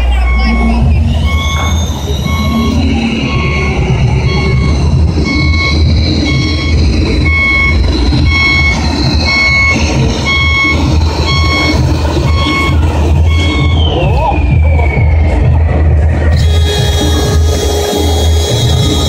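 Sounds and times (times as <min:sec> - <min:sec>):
low hum: 0:00.0 - 0:19.0
reversing alarm beeping: 0:00.0 - 0:19.0.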